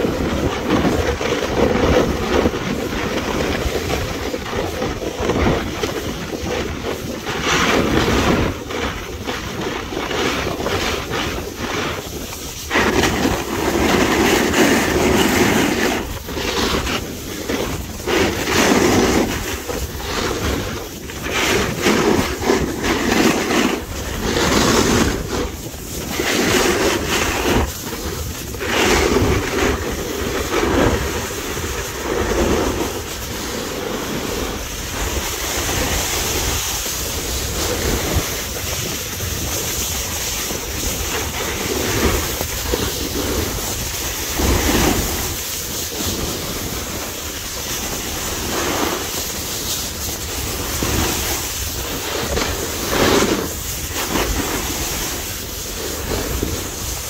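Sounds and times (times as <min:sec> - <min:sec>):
ski edges scraping snow: 0:00.0 - 0:57.0
wind rushing over microphone: 0:00.0 - 0:57.0.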